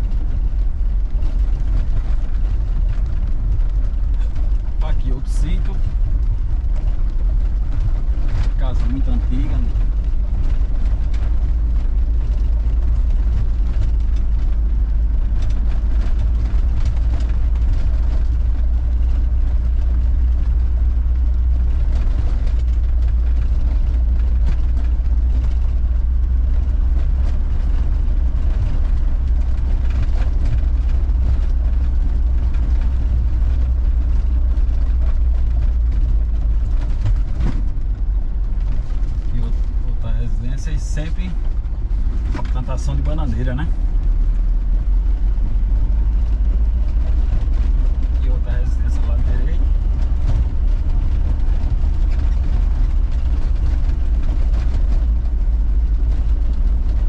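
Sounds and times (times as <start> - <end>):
engine rumbling: 0.0 - 57.0
road noise: 0.0 - 57.0.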